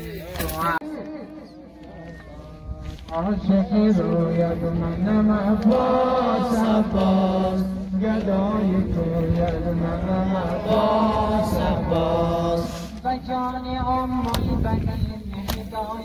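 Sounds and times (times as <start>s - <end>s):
man chanting a lament: 0.6s - 16.0s.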